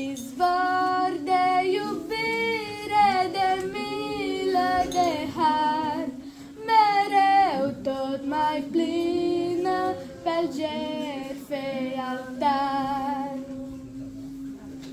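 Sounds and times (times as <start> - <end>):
girl singing a hymn solo: 0.0 - 13.8.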